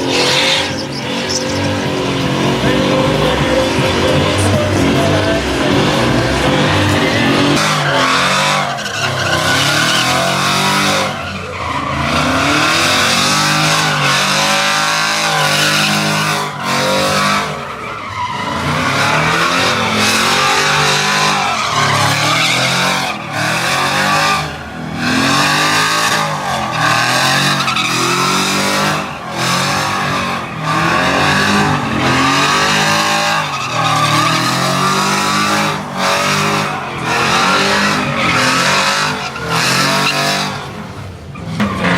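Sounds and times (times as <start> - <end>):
spinning tyres squealing: 0.0 - 41.9
truck engine revving hard: 0.0 - 41.9.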